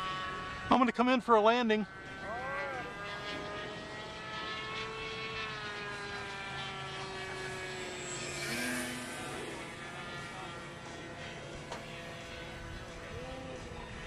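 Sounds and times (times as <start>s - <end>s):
model airplane engine drone: 0.0s - 14.0s.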